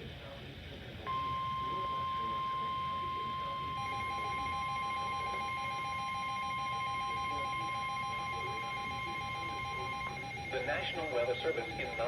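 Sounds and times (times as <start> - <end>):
rapidly pulsing alert beep: 1.1 - 12.0
steady high-pitched warning tone: 1.1 - 12.0.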